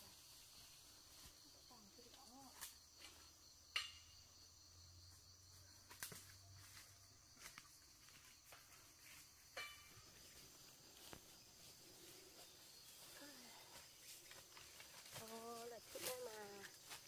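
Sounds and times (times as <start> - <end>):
faint insect chirring: 0.0 - 17.0.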